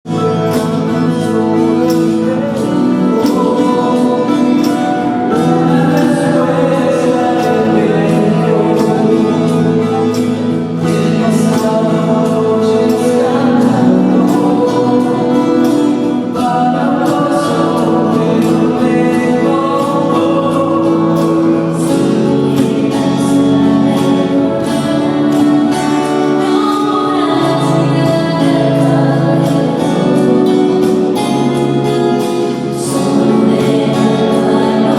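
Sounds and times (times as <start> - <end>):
music with singing: 0.0 - 34.9.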